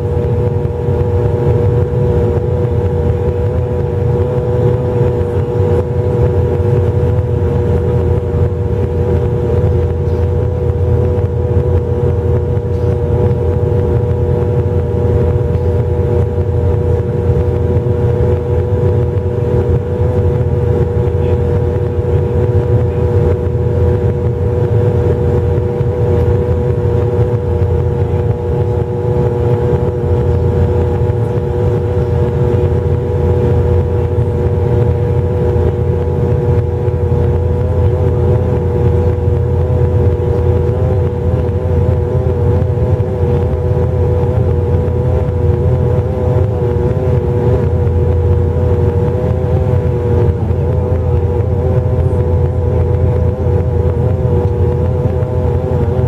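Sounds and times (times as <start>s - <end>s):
turboprop engine drone: 0.0s - 56.0s.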